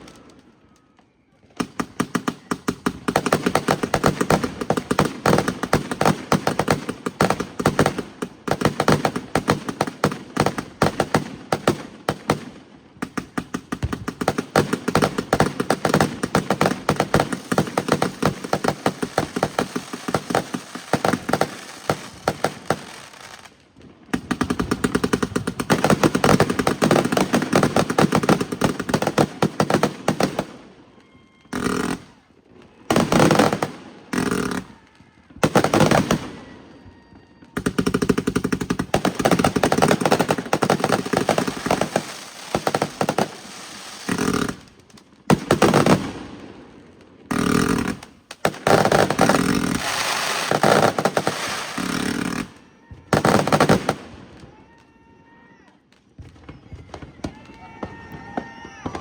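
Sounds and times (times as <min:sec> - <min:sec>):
fireworks crackling: 0:00.0 - 0:54.8, 0:55.9 - 0:59.0.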